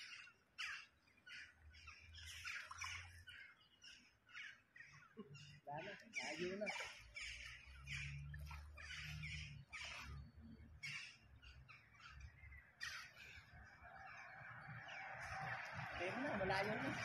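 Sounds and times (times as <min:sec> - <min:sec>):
harsh bird calls: 0:00.0 - 0:17.0.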